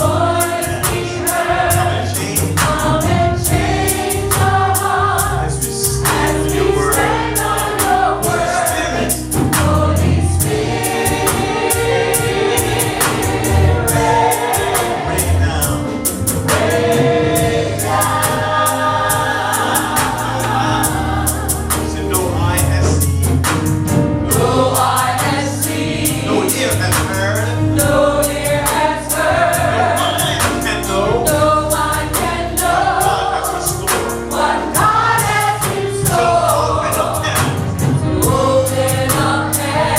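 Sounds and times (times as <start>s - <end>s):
band playing: 0.0s - 39.9s
bass: 0.0s - 39.9s
gospel choir singing: 0.0s - 39.9s.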